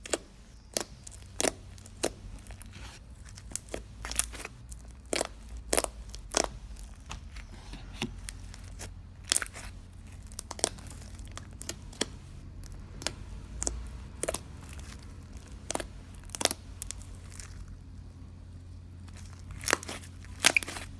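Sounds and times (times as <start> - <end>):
hardened slime crust cracking: 0.0 - 20.9.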